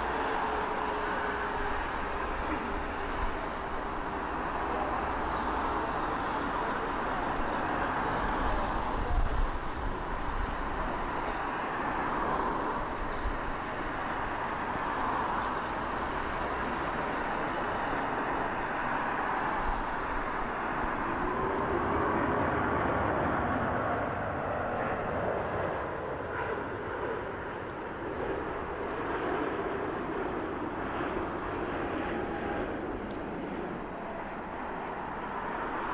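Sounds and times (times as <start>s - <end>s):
jet engine roar: 0.0s - 35.9s.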